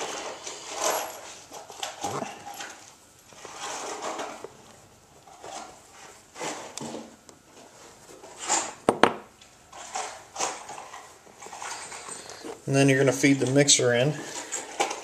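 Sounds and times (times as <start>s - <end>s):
hands scraping and rustling plastic: 0.0s - 8.8s, 9.4s - 15.0s.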